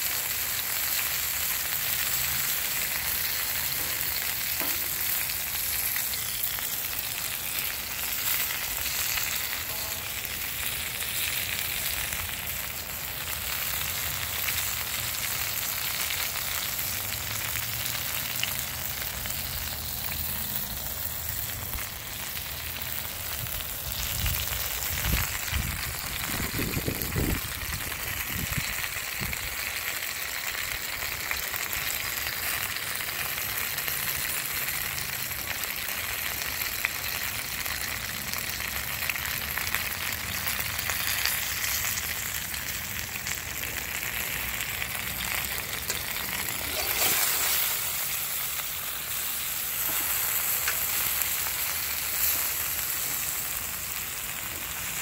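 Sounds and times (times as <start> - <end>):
chicken sizzling in oil: 0.0 - 55.0.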